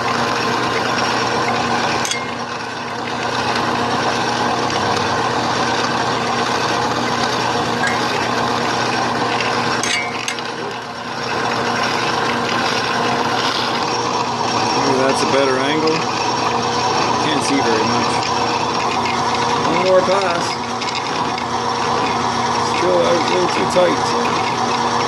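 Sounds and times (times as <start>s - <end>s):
machine tool humming: 0.0s - 25.0s.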